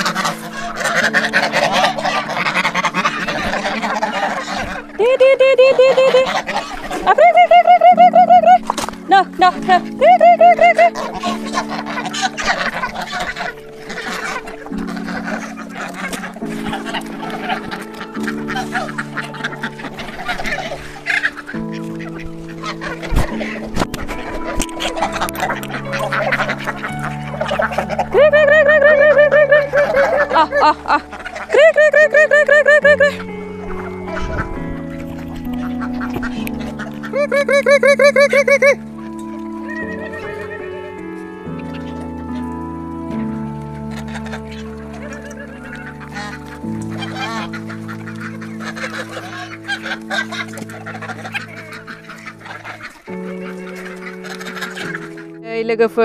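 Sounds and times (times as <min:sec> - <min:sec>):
duck quacking rapidly: 0:00.0 - 0:40.9, 0:43.8 - 0:55.4
background music with sustained chords: 0:00.0 - 0:56.0
chickens and geese calling: 0:00.0 - 0:56.0
goose honking: 0:00.0 - 0:56.0.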